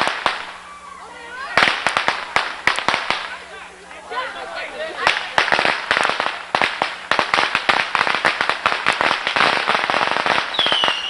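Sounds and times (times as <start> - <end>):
firecrackers cracking and banging: 0.0 - 0.7, 1.4 - 3.7, 5.0 - 11.0.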